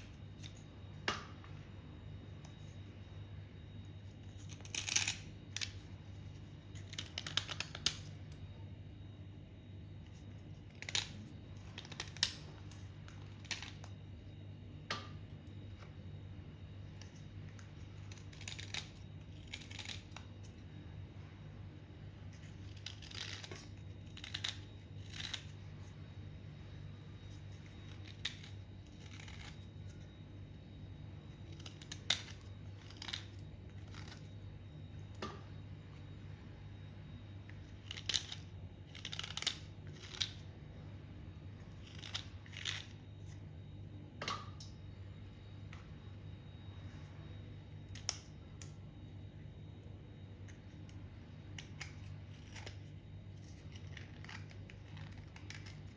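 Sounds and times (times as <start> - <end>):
faint low hum: 0.0 - 55.9.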